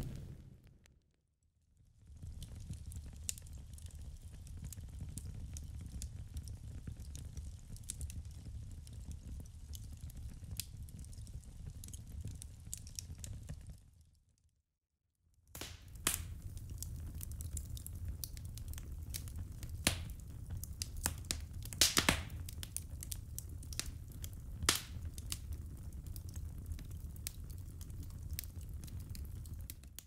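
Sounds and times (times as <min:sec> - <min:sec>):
firewood crackling and popping: 0:00.0 - 0:01.0, 0:02.0 - 0:14.1, 0:15.5 - 0:30.0.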